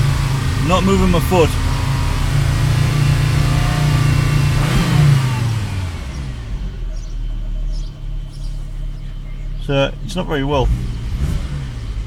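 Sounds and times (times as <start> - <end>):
car engine at raised revs: 0.0 - 12.0.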